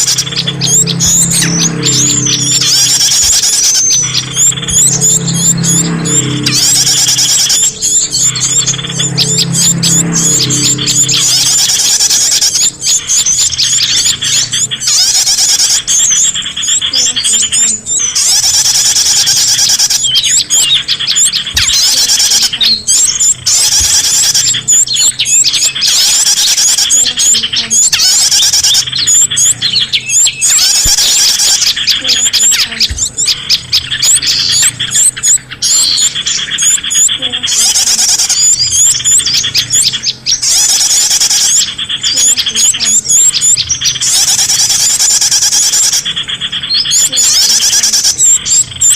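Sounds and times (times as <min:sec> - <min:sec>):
many small birds chirping: 0:00.0 - 0:48.9.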